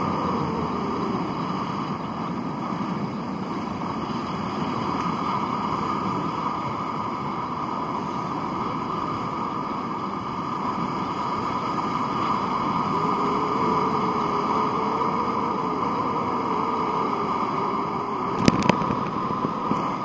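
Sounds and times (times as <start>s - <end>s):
boat engine: 0.0s - 20.0s
faint steady hum: 0.0s - 20.0s
water rushing: 0.0s - 20.0s
wind over microphone: 0.0s - 20.0s.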